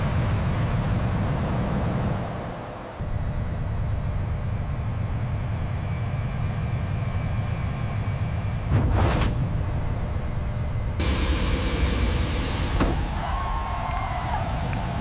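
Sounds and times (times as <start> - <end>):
jet engine rumble: 0.0 - 15.0.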